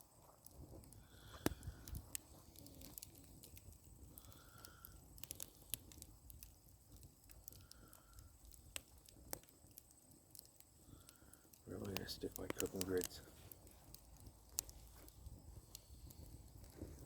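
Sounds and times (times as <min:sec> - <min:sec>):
campfire crackling: 0:00.0 - 0:17.0
sharp fire pops: 0:00.4 - 0:17.0.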